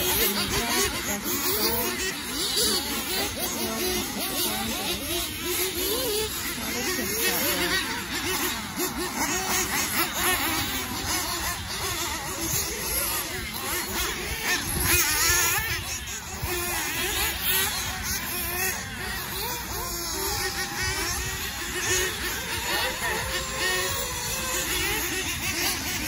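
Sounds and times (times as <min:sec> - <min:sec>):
rc car engines whining: 0:00.0 - 0:26.0.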